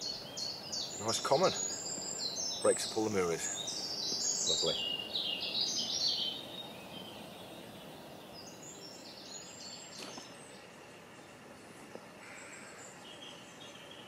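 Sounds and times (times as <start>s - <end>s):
songbird singing: 0.0s - 14.0s
steady low hum: 0.0s - 14.0s.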